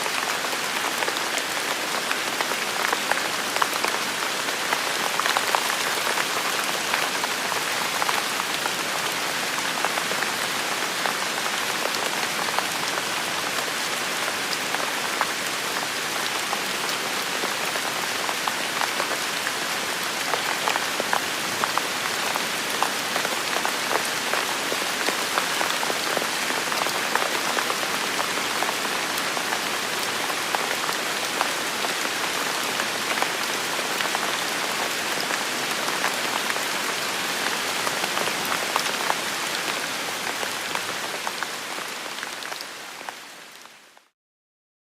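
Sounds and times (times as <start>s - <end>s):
steady rain falling: 0.0s - 44.1s.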